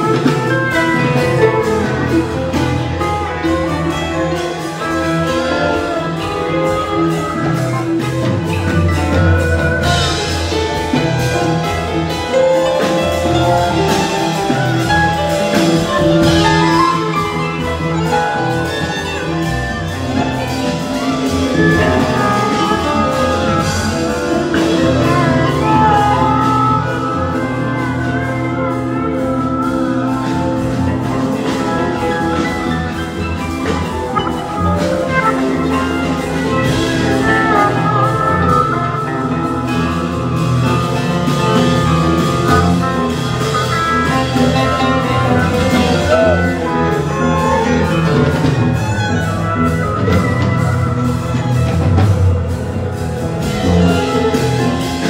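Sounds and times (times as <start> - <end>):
live band music: 0.0 - 55.0.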